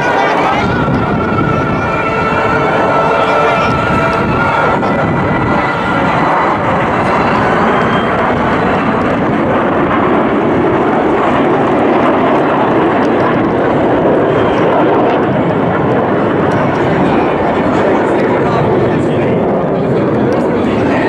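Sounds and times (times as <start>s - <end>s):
jets flying overhead: 0.0s - 21.0s.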